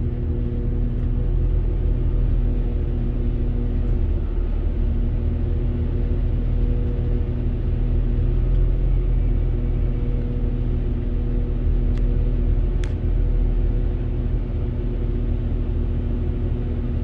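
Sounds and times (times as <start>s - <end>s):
train interior rumble and hum: 0.0s - 17.0s.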